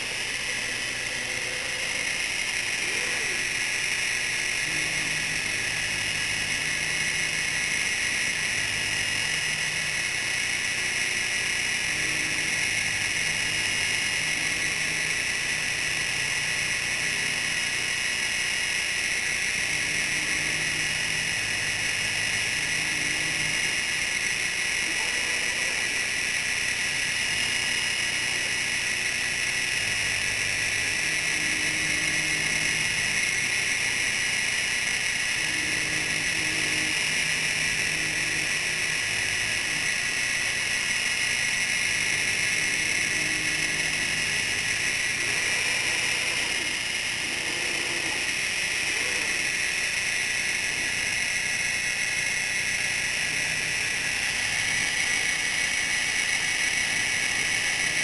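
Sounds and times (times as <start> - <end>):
low motor tones: 0.0 - 58.0
router spindle hissing: 0.0 - 58.0.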